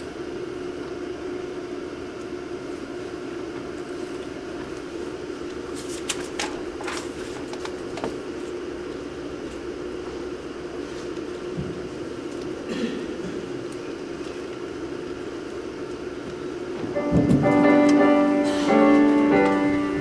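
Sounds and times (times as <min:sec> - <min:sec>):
hall hum: 0:00.0 - 0:20.0.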